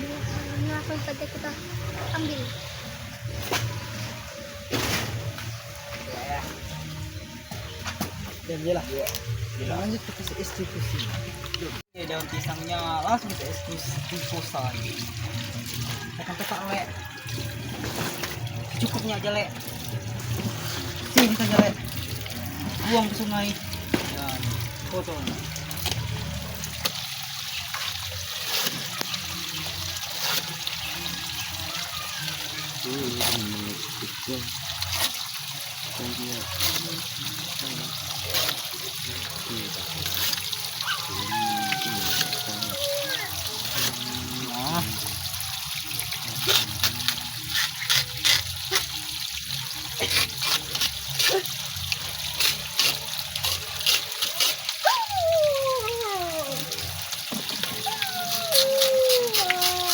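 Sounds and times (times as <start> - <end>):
river water trickling: 0.0 - 59.9.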